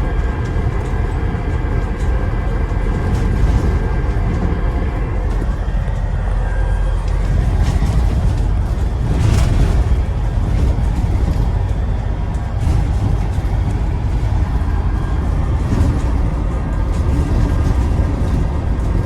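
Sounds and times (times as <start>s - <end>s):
bus engine rumble: 0.0s - 19.0s
road noise: 0.0s - 19.0s.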